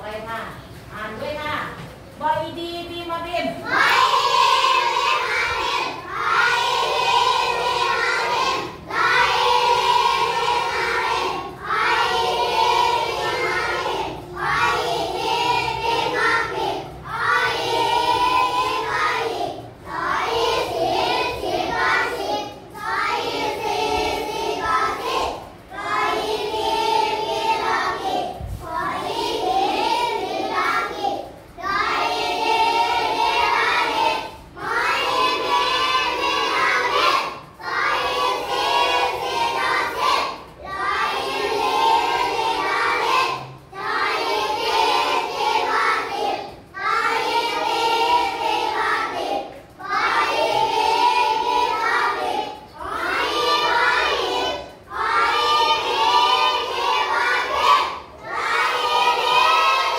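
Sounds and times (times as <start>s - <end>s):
children chanting in unison: 3.6s - 59.9s.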